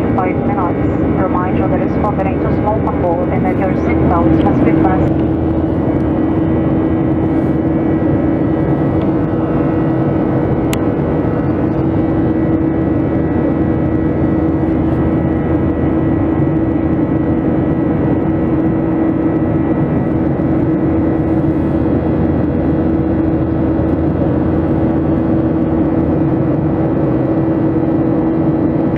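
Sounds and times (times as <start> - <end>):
jet engines heard from cabin: 0.0 - 28.9.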